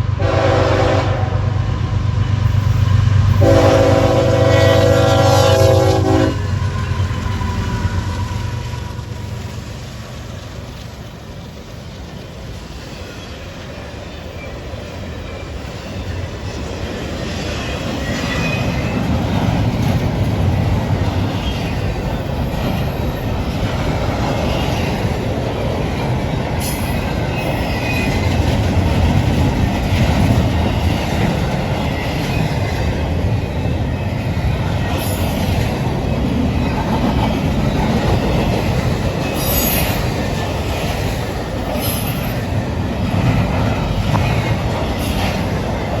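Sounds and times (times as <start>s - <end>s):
train clacks: 0.0s - 46.0s
train wheels rumbling on rails: 0.0s - 46.0s.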